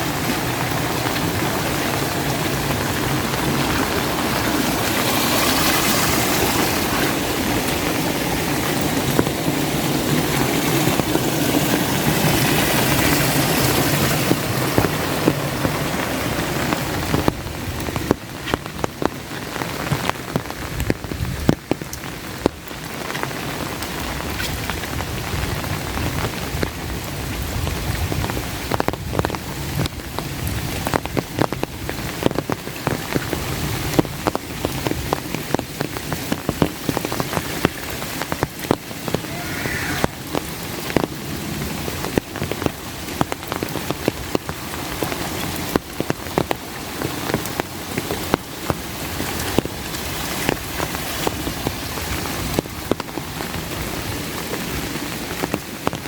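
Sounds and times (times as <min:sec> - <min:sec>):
rain tapping on an umbrella: 0:00.0 - 0:56.0.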